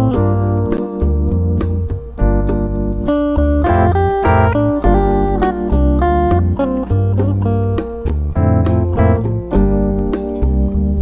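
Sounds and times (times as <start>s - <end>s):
bass line: 0.0s - 11.0s
plucked guitar melody: 0.0s - 11.0s.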